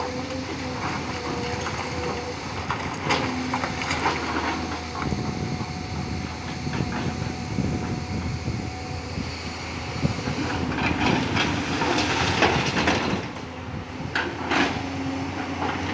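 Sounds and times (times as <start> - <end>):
excavator clattering and scraping: 0.0 - 15.9
excavator diesel engine running: 0.0 - 15.9.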